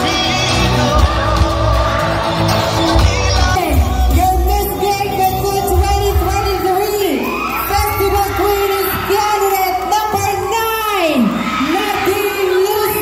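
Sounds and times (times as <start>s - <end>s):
crowd yelling and whooping: 0.0s - 13.0s.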